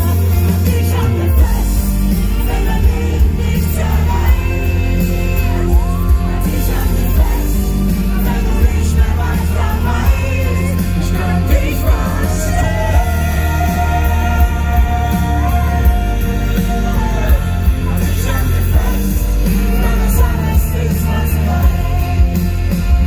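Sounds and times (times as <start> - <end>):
live pop-rock band: 0.0 - 23.0
person singing: 0.0 - 23.0.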